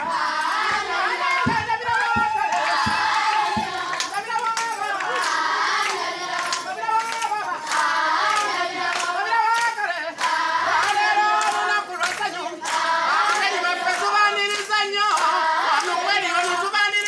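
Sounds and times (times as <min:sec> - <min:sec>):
girls singing together: 0:00.0 - 0:17.0
hand clapping: 0:00.0 - 0:17.0.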